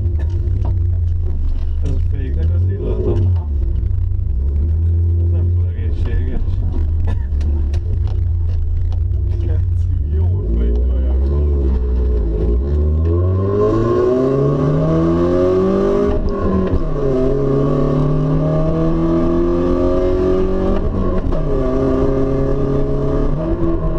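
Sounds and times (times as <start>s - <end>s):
car engine accelerating: 0.0s - 23.9s.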